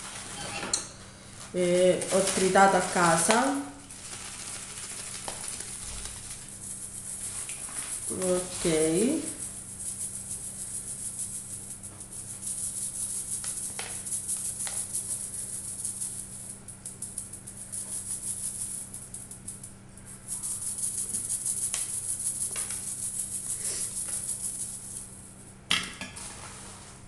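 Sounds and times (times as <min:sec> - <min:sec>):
sugar sifting through metal strainer: 0:01.6 - 0:25.4.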